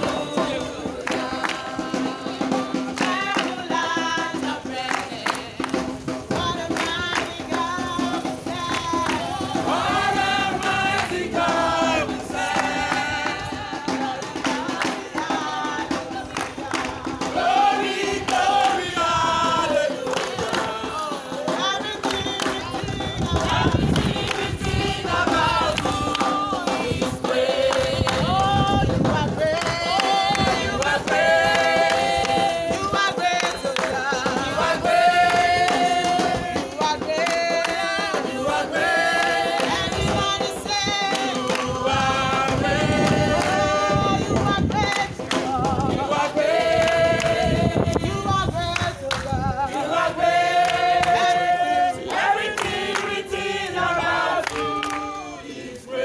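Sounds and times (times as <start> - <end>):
group singing together: 0.0 - 56.0.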